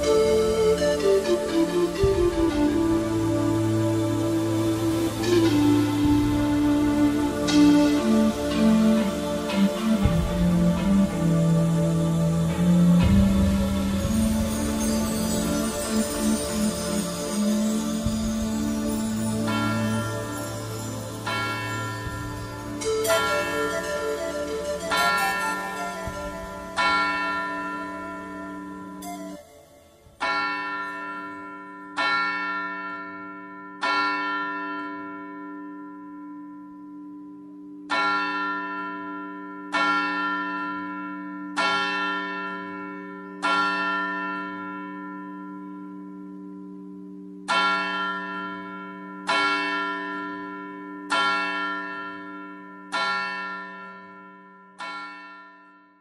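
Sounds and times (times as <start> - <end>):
church bell tolling: 7.5 - 56.0.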